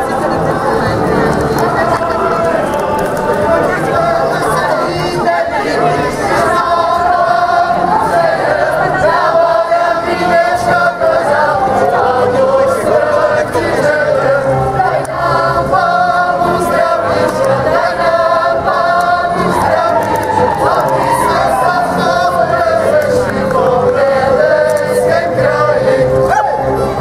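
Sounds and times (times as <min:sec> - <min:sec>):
group of people singing in chorus: 0:00.0 - 0:27.0.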